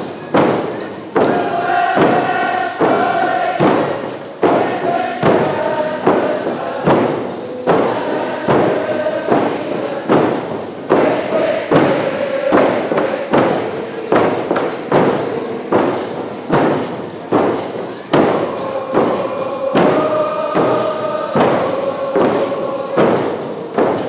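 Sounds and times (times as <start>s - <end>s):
frame drums beating: 0.0s - 24.0s
group singing a chant: 0.0s - 24.0s.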